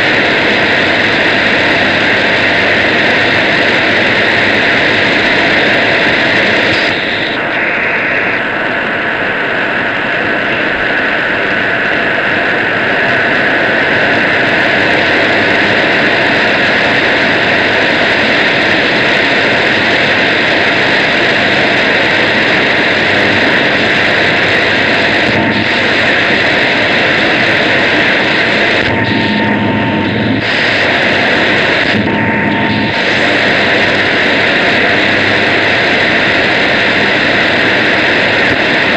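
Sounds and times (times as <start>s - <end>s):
shortwave radio hiss: 0.0s - 38.9s.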